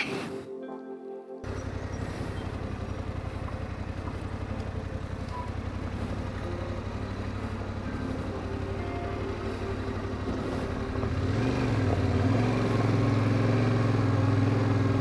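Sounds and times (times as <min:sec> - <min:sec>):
motorcycle engine running: 0:01.4 - 0:15.0.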